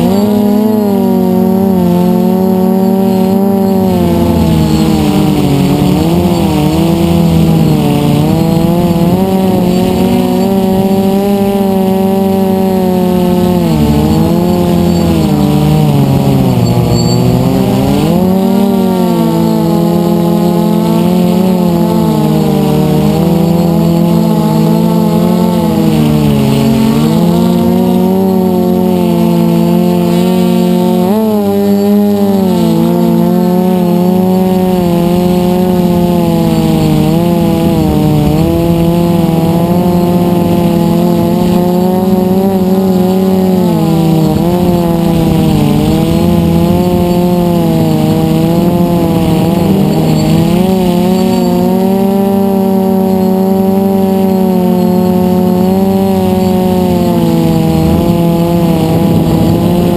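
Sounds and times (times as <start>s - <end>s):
quadcopter motors humming: 0.0s - 59.9s.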